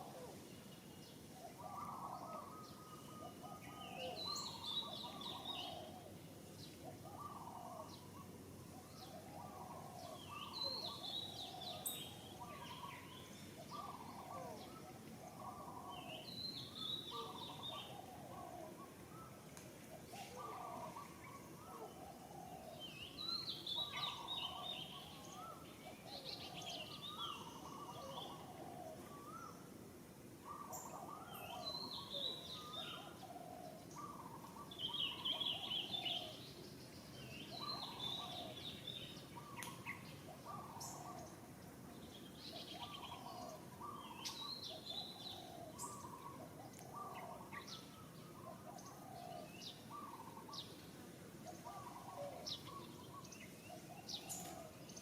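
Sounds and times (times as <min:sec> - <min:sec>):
birds calling low notes: 0:00.0 - 0:55.0
birds chirping high: 0:00.0 - 0:55.0.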